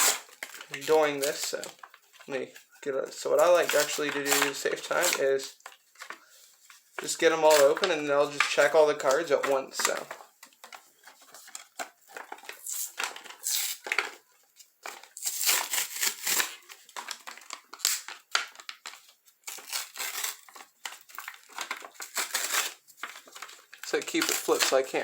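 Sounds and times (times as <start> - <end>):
plastic wrappers crinkling and tearing: 0.0 - 25.0.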